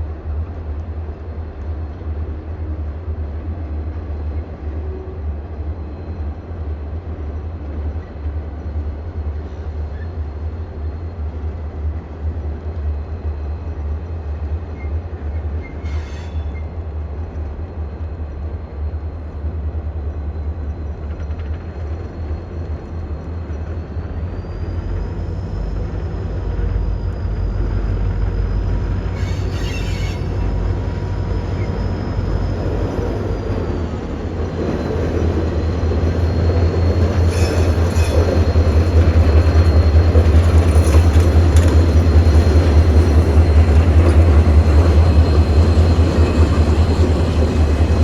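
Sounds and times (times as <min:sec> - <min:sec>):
train rumbling past: 0:00.0 - 0:48.0.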